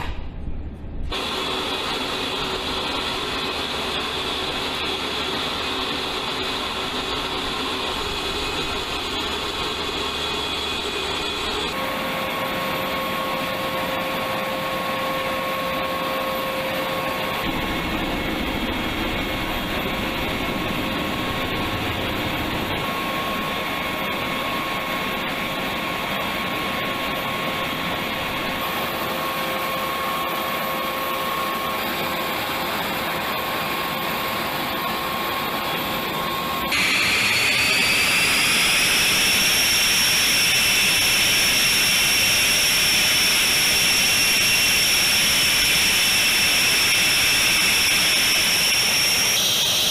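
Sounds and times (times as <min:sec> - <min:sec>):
jet turbine whine: 0:00.0 - 0:49.9
rushing roar of machinery: 0:01.0 - 0:49.9.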